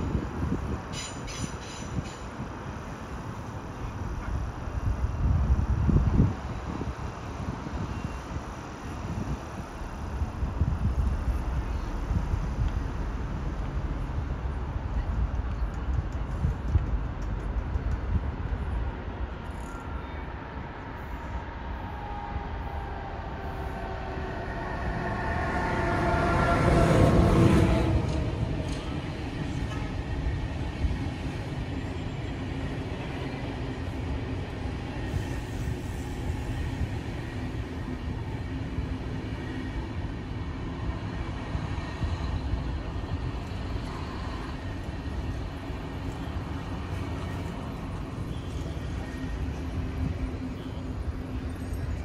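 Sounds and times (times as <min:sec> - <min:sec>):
train passing with whine: 0:00.0 - 0:52.0
wheels rumbling on track: 0:00.0 - 0:52.0.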